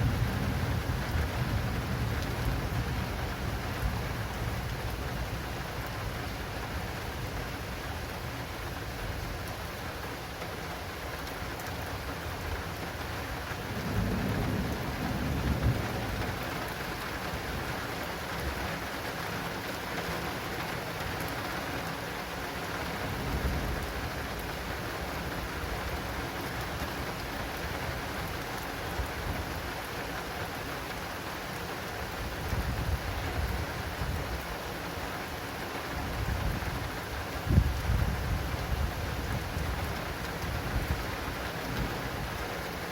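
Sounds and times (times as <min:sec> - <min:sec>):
heavy rain on acrylic canopy: 0:00.0 - 0:42.9.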